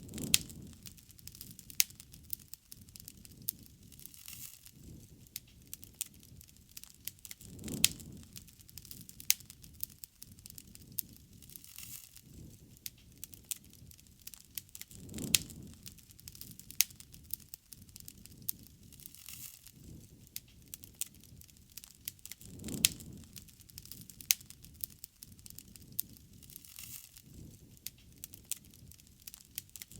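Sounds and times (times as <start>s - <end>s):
bonfire crackling and popping: 0.0s - 29.9s
low roar of fire: 0.0s - 29.9s.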